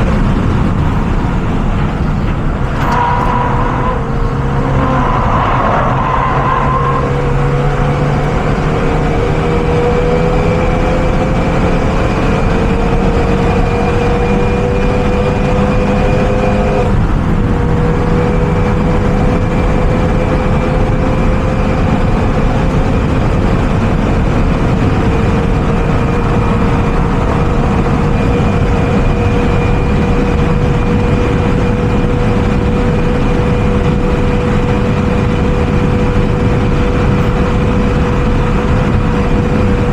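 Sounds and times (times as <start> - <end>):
car engine pulling under load: 0.0 - 39.9
road and wind noise: 0.0 - 39.9.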